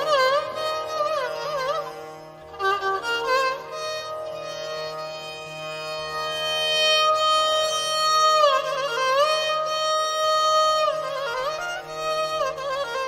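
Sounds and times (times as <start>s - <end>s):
instrumental melody with pitch bends: 0.0s - 13.0s.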